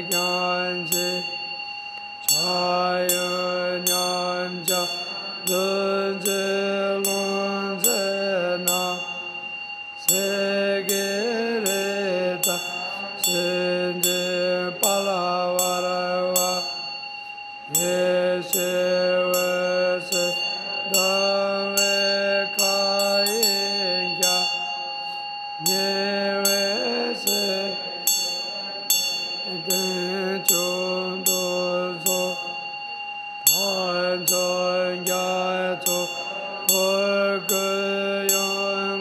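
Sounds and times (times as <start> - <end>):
man chanting in long notes: 0.0 - 1.6, 2.2 - 17.0, 17.7 - 39.0
hand bell ringing: 0.0 - 39.0.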